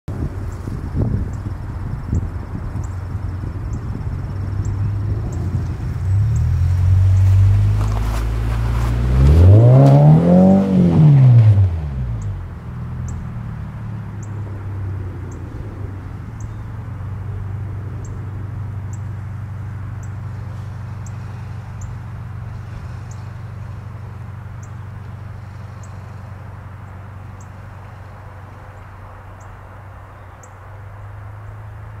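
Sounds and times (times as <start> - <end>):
car engine revving: 1.4 - 29.1.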